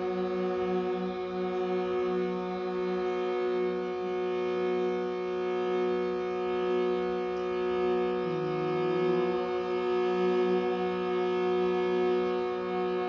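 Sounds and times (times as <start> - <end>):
meditative drone music: 0.0 - 13.0.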